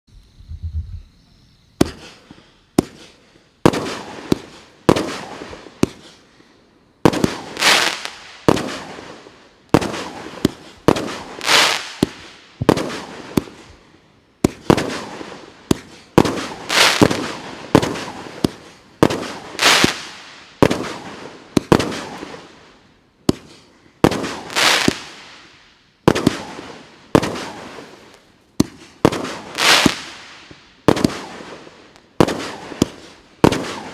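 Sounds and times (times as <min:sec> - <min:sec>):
fireworks bangs and crackle: 0:01.8 - 0:33.9.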